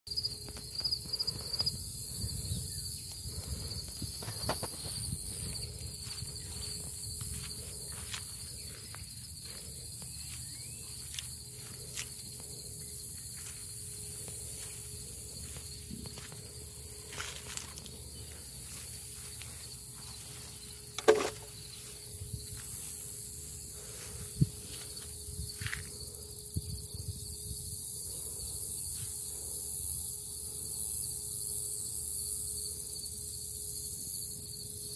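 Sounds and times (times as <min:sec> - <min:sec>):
footsteps in a garden: 0:00.1 - 0:31.0
crickets trilling: 0:00.1 - 0:34.9.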